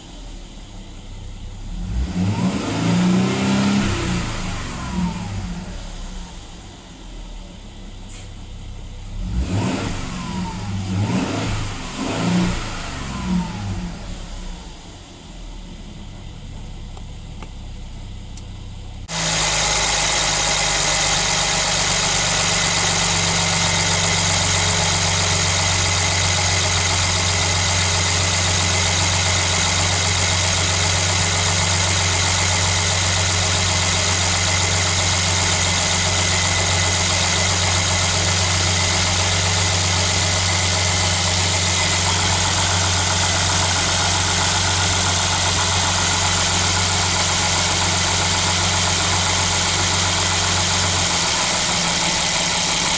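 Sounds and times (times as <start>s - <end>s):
car engine idling: 0.0s - 2.1s, 3.5s - 52.9s.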